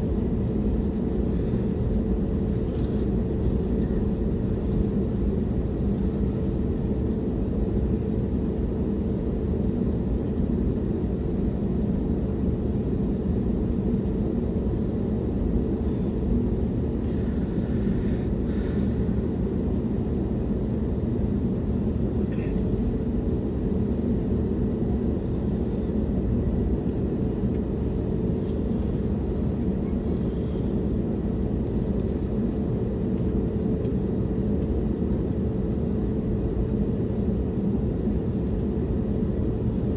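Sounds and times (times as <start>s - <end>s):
aircraft cabin rumble: 0.0s - 39.9s
constant hum: 0.0s - 39.9s.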